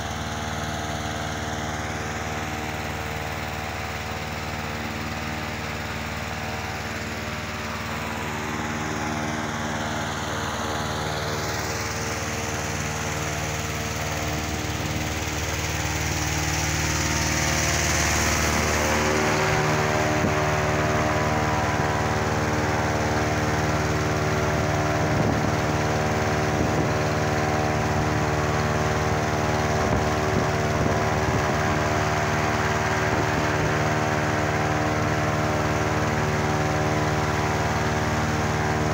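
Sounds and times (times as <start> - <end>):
inflator fan engine running: 0.0 - 38.9.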